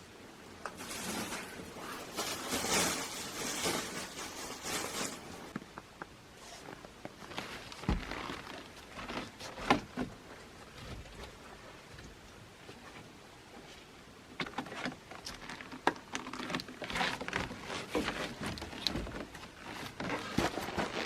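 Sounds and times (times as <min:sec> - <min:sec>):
rustling and handling noises: 0:00.0 - 0:21.0.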